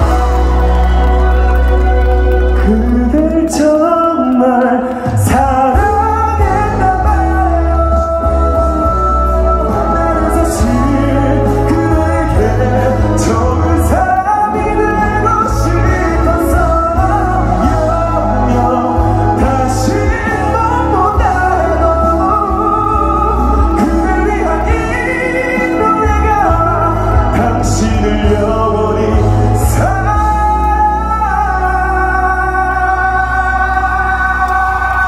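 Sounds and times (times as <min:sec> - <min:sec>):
live pop ballad band: 0:00.0 - 0:35.0
person singing: 0:00.0 - 0:35.0.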